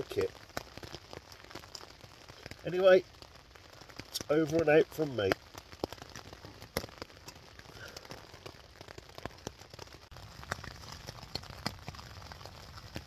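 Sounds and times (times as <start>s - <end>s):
rain drops tapping on tent: 0.0s - 13.0s
soft rain hiss: 0.0s - 13.0s.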